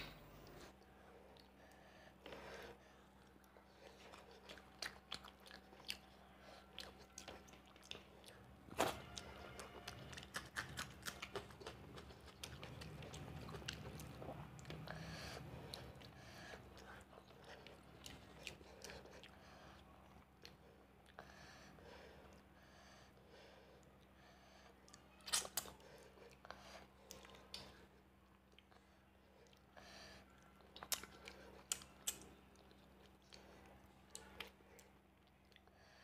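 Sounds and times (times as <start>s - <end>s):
close chewing and mouth sounds: 0.0s - 36.0s
faint steady hum: 0.0s - 36.0s.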